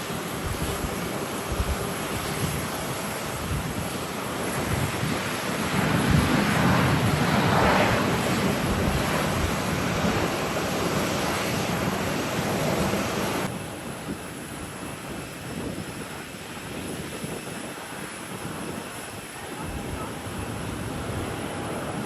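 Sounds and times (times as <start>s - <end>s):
gusty wind on microphone: 0.0s - 22.0s
jet engines rushing: 0.0s - 22.0s.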